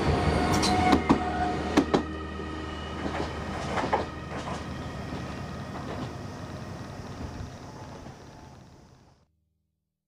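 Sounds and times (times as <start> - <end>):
tram passing: 0.0 - 9.2.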